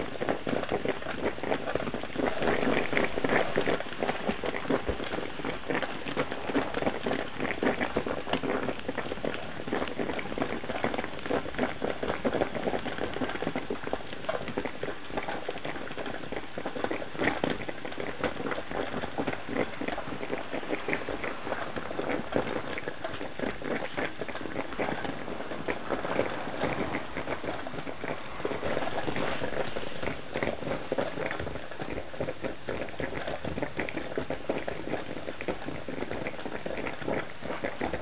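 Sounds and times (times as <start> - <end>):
coffee percolator bubbling and popping: 0.0 - 38.0.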